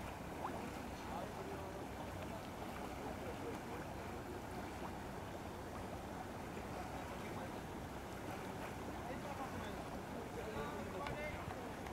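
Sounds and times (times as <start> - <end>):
hot spring water bubbling: 0.0 - 11.9.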